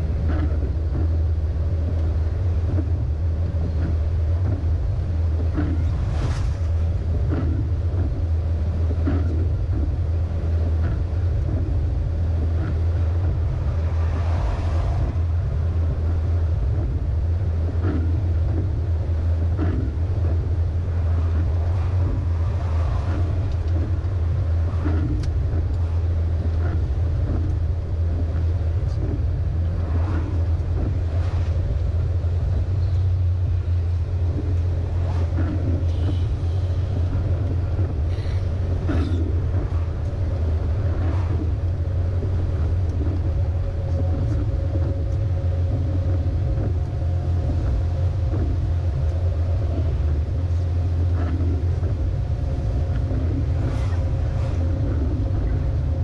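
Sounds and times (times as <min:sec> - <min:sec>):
rushing road noise: 0:00.0 - 0:56.0
truck diesel engine drone: 0:00.0 - 0:56.0.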